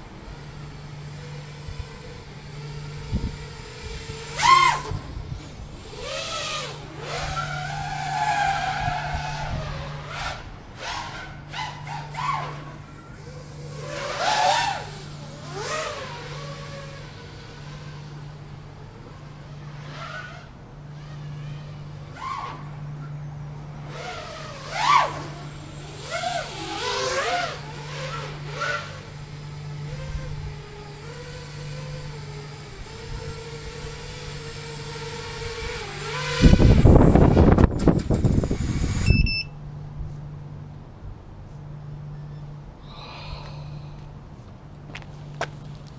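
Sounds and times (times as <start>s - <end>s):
quadcopter motors whining: 0.0s - 45.9s
steady low hum: 0.0s - 45.9s.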